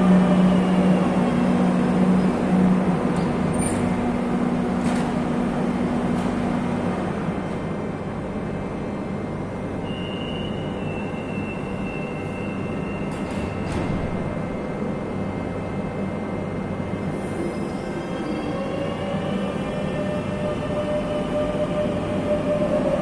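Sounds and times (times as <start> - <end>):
metro train running: 0.0 - 23.0.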